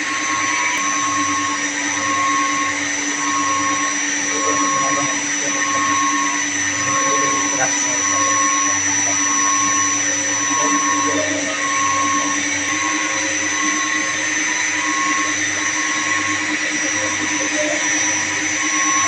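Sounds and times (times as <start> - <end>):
electric pumps droning: 0.0 - 19.0
high whine: 0.0 - 19.0
pulsing tone: 0.0 - 19.0.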